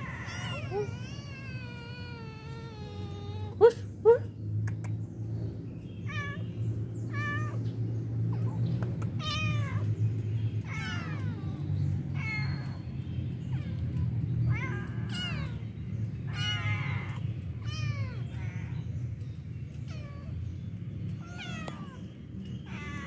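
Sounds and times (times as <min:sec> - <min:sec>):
cats meowing: 0:00.0 - 0:03.9, 0:06.0 - 0:23.0
steady low rumble: 0:00.0 - 0:23.0.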